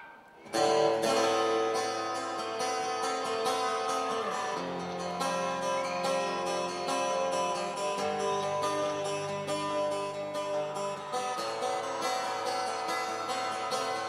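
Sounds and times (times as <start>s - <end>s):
plucked string notes: 0.0s - 14.0s.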